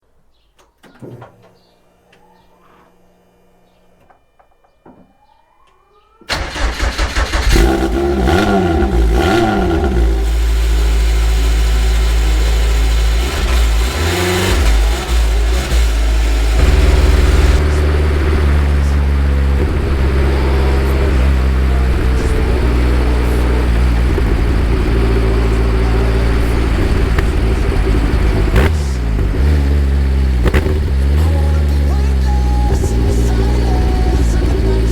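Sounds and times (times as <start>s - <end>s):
car engine starting and revving: 6.3s - 34.9s.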